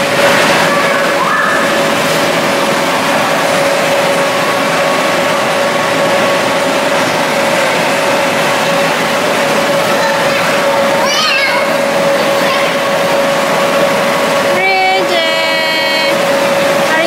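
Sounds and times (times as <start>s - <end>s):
electric blower fans running: 0.0s - 17.0s.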